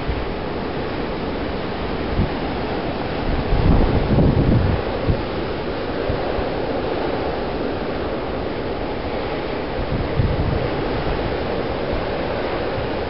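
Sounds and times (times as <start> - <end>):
blizzard wind buffeting microphone: 0.0 - 13.0.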